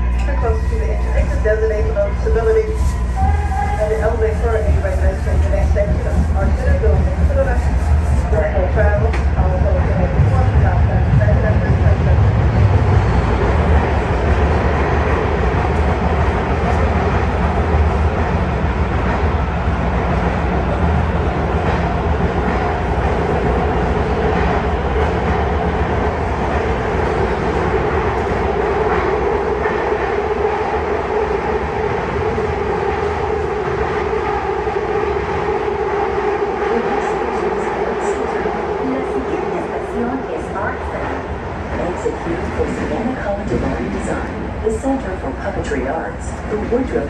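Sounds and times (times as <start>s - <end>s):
rail car wheels rumbling: 0.0s - 47.0s.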